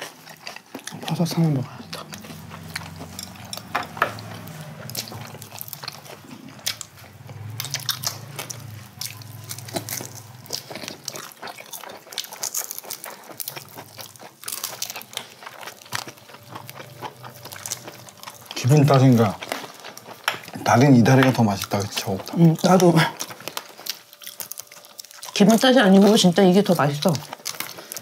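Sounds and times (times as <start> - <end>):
chewing with mouth clicks: 0.0 - 28.0.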